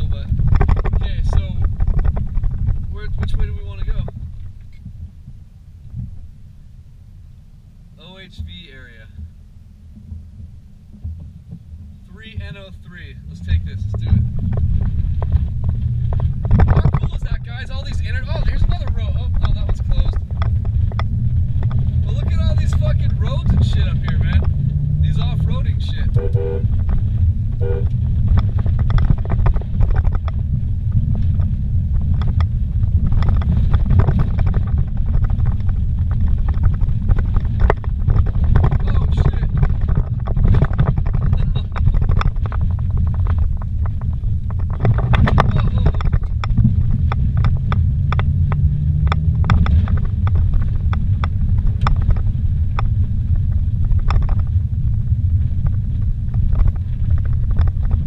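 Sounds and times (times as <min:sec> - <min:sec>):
knocks and rattles: 0:00.0 - 0:06.3, 0:08.4 - 0:58.0
car engine revving: 0:00.0 - 0:57.1
tyres rumbling on gravel: 0:00.0 - 0:58.0.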